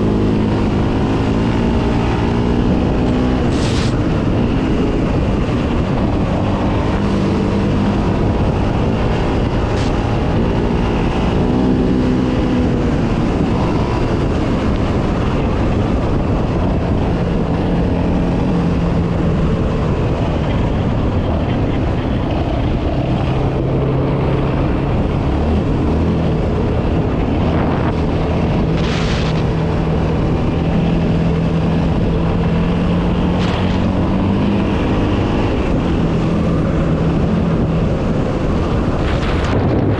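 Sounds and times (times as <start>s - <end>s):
quad engine revving: 0.0s - 39.9s
wind rush: 0.0s - 39.9s.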